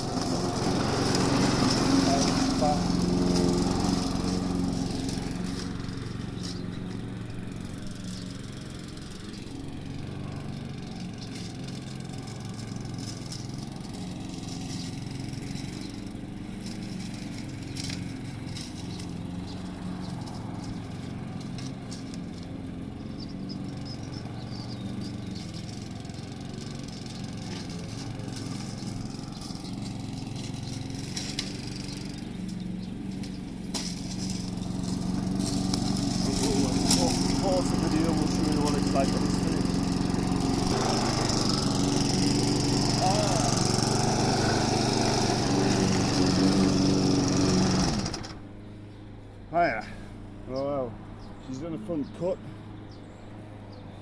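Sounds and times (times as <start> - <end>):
lawnmower engine cutting grass: 0.0 - 54.0.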